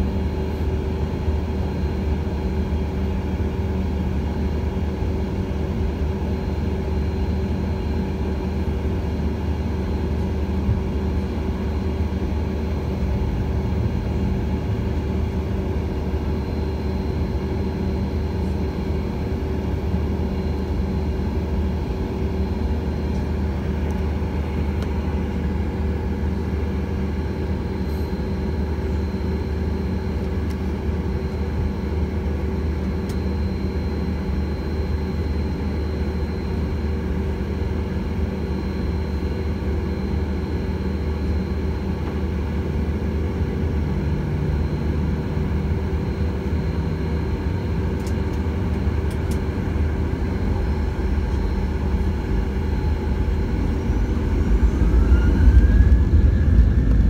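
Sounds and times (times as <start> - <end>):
jet engines humming with whine: 0.0 - 57.0.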